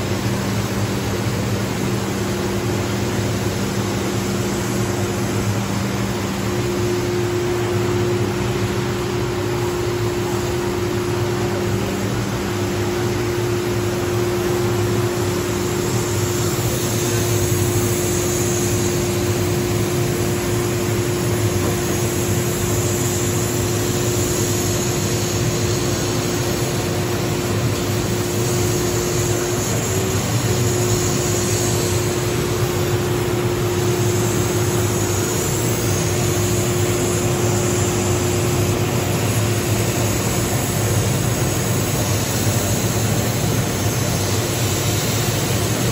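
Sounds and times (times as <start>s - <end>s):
laser cutter rushing roar: 0.0s - 45.9s
steady hum: 0.0s - 45.9s.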